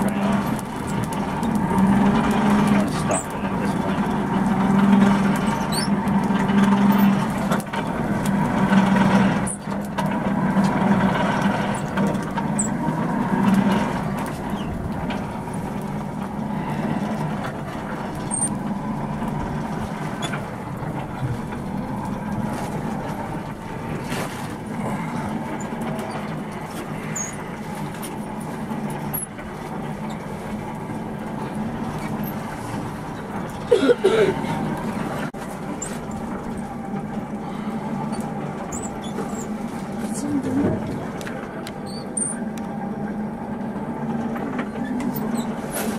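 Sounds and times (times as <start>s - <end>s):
forge blower air rush: 0.0s - 45.9s.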